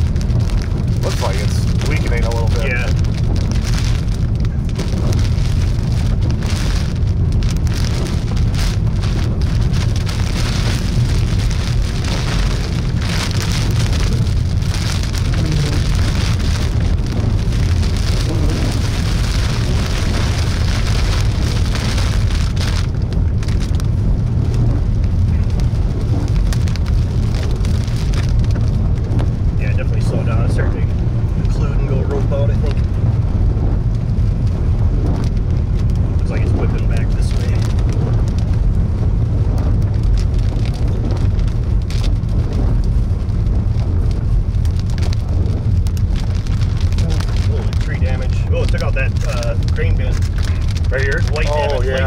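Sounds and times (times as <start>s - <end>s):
rain on car roof: 0.0s - 52.0s
road and engine rumble: 0.0s - 52.0s.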